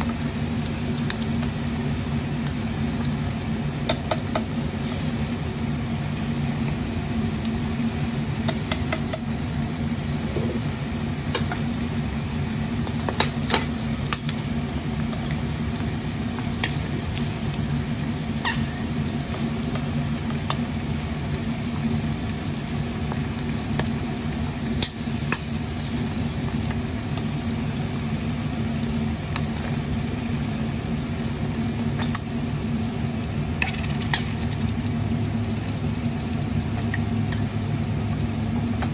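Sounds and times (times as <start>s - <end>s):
oil sizzling and bubbling: 0.0s - 38.9s.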